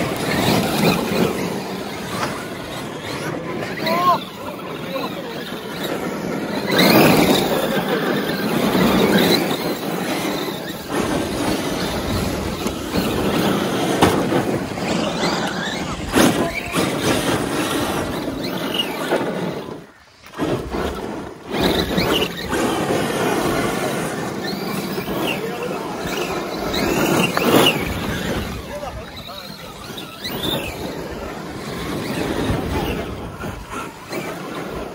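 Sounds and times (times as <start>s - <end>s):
rc truck motors whining: 0.0s - 34.9s.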